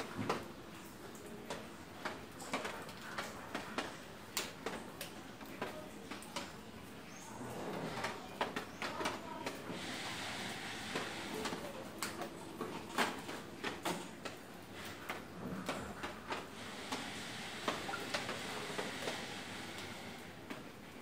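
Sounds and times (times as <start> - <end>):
room noise: 0.0 - 21.0.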